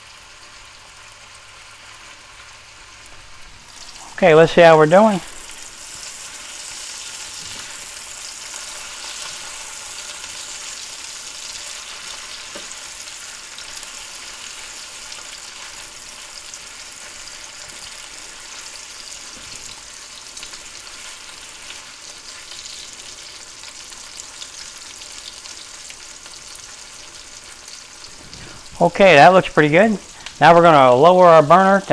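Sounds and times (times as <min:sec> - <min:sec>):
sausages sizzling in oil: 0:00.0 - 0:31.9.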